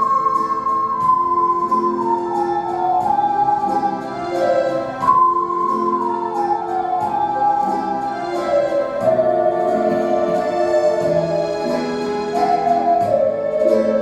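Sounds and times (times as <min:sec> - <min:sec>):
ocarina ensemble playing melody: 0:00.0 - 0:14.0.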